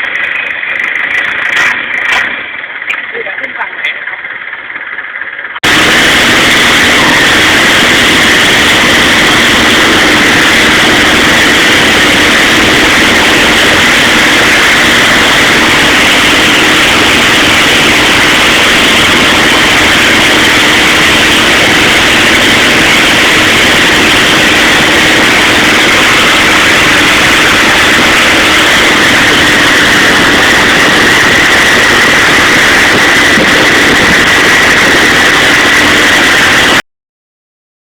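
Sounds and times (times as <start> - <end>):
boat engine running: 0.0 - 36.8.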